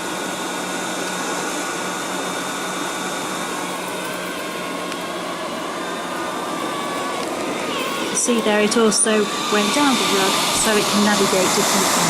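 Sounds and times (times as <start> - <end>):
robot vacuum cleaner running: 0.0 - 12.0.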